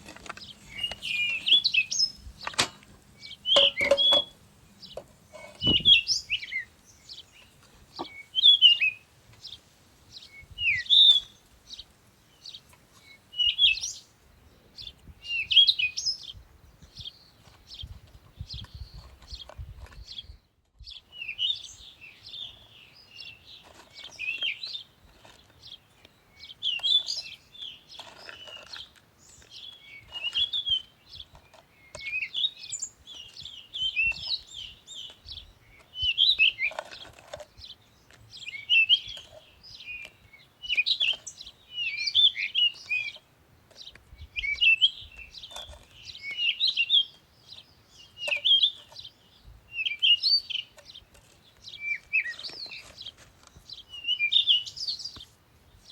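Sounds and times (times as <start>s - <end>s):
songbirds chirping and warbling: 0.0s - 55.9s.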